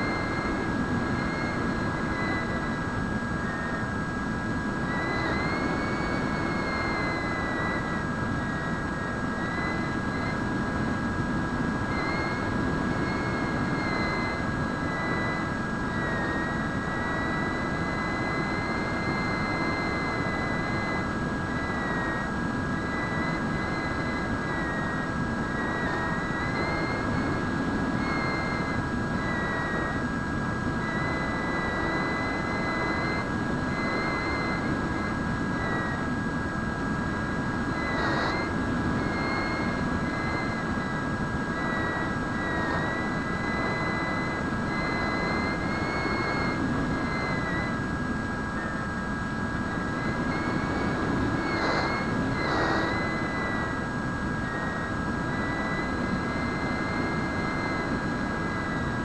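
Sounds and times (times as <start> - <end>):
wind rushing on microphone: 0.0 - 59.0.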